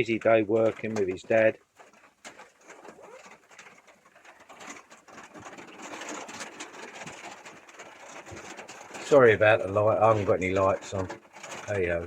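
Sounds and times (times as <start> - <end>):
rain pattering on metal roof: 0.0 - 12.0.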